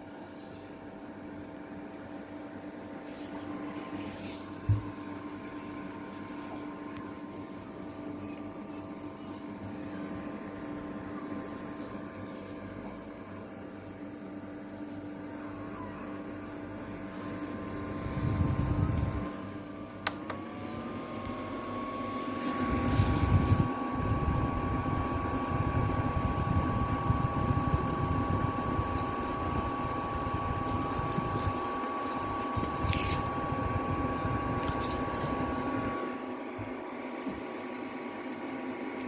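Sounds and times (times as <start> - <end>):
fan motor whine: 0.0 - 39.0.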